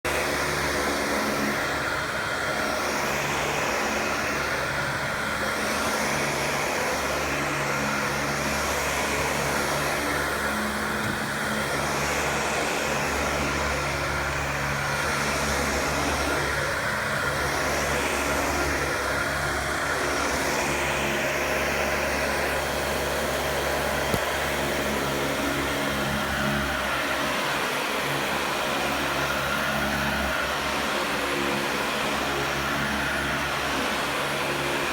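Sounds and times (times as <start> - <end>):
vacuum cleaner running: 0.1 - 34.9.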